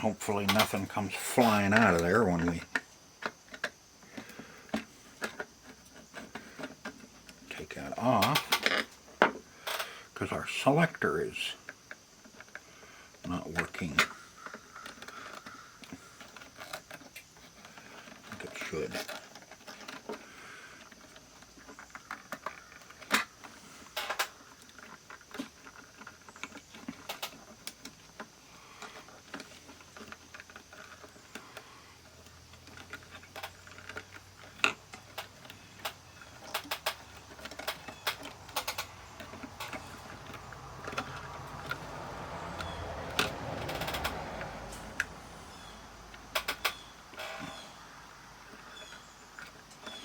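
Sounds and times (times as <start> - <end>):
small clicks taps and rattles: 0.0 - 10.0, 11.6 - 50.0.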